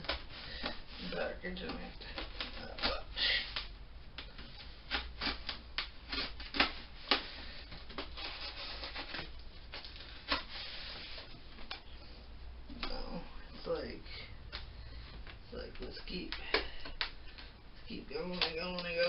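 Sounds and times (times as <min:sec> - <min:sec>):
tape and cardboard crackling: 0:00.0 - 0:19.0.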